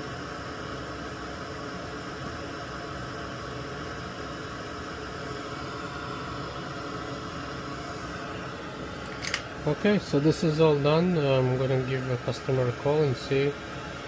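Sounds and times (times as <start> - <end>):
fan hissing: 0.0 - 14.0.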